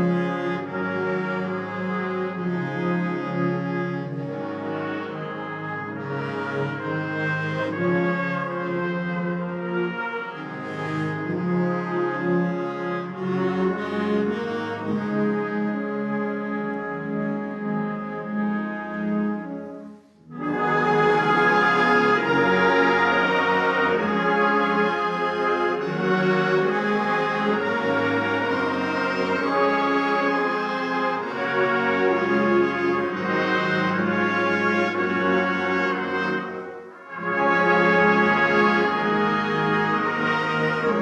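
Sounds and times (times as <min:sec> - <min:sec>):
wind band playing with brass: 0:00.0 - 0:41.0.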